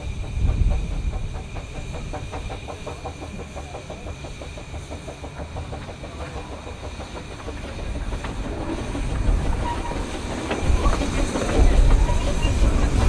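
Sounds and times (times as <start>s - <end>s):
steam locomotive beat: 0.0s - 13.0s
wheels rumbling on track: 0.0s - 13.0s.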